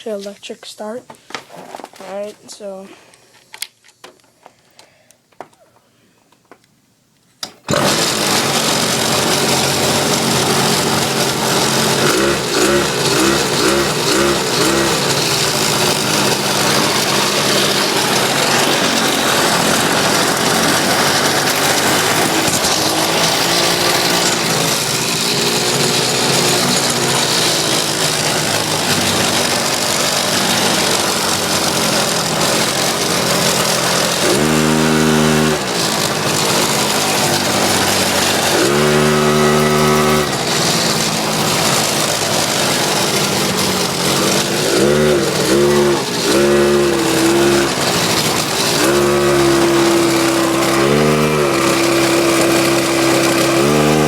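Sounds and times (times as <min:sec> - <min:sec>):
small motorbike engine revving: 0:07.4 - 0:54.0.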